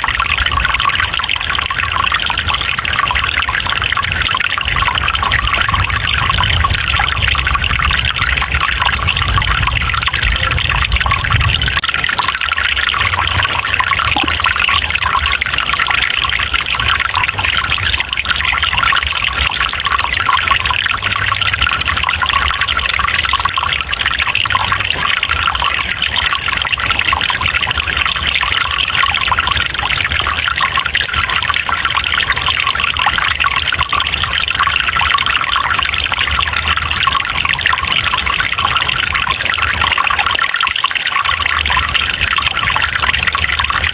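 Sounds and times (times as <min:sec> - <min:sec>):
stream flowing over rocks: 0:00.0 - 0:43.9.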